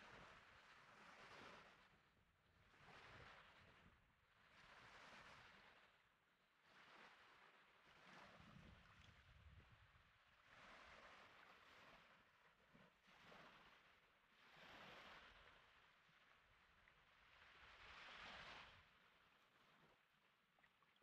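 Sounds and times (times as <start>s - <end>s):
faint sea waves on shore: 0.0s - 21.0s.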